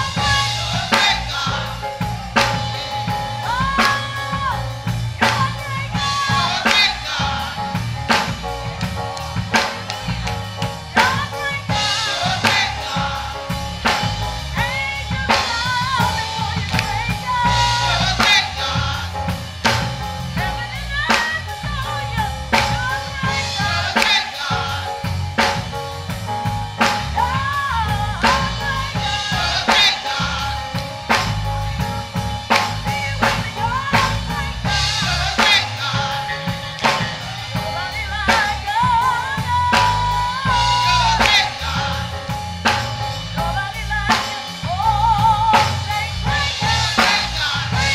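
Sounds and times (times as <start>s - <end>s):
bass line: 0.0s - 47.9s
drum kit steady beat: 0.0s - 47.9s
gospel choir singing: 0.0s - 47.9s.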